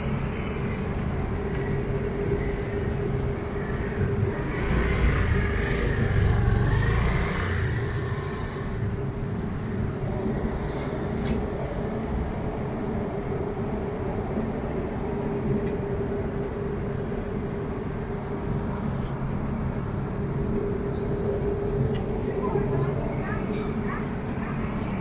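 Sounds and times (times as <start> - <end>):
constant hum: 0.0 - 25.0.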